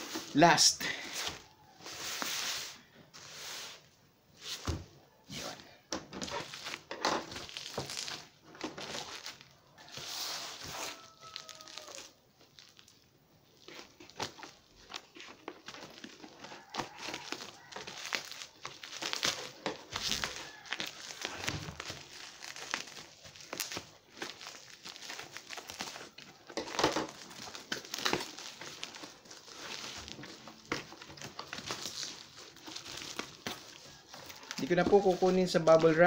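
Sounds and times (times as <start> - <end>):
bubble wrap crinkling and tearing: 0.0 - 4.7, 5.3 - 36.0.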